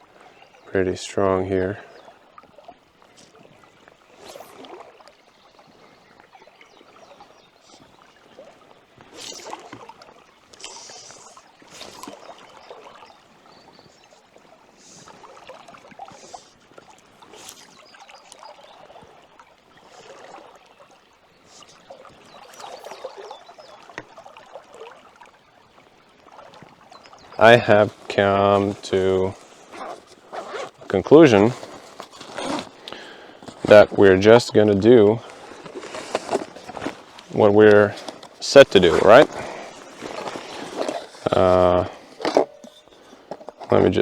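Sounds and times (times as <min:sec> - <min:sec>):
river water running: 0:00.0 - 0:44.0
water splashing and sloshing: 0:00.0 - 0:44.0.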